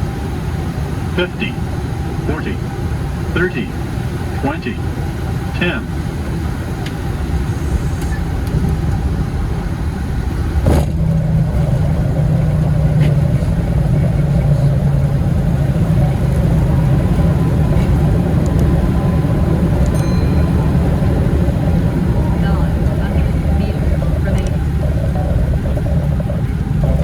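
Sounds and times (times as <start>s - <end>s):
airplane rolling on runway rumble: 0.0s - 27.0s.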